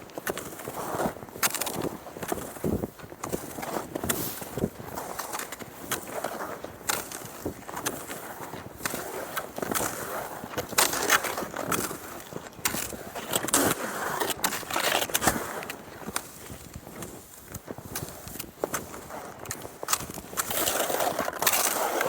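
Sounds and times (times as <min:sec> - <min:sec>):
skis scraping over snow: 0:00.0 - 0:22.0.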